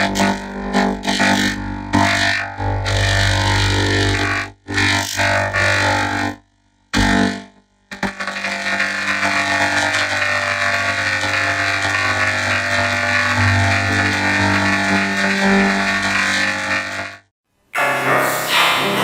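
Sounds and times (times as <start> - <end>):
music: 0.0 - 17.3.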